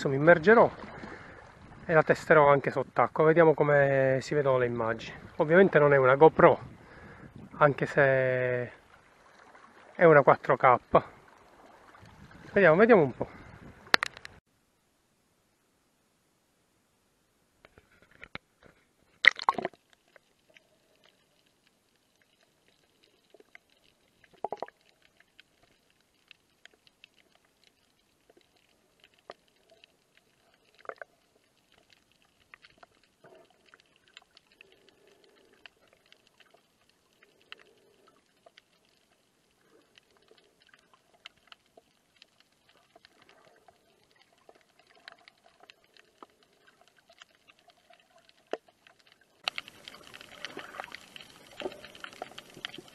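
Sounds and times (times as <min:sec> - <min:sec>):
faint underwater clicks and ticks: 0:00.0 - 0:14.5, 0:17.6 - 0:52.9.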